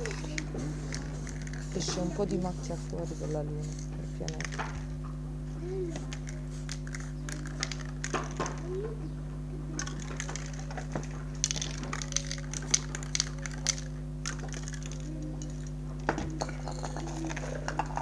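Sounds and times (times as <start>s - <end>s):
spray can ball rattling: 0.0s - 4.9s, 5.9s - 8.7s, 9.8s - 18.0s
steady low hum: 0.0s - 18.0s.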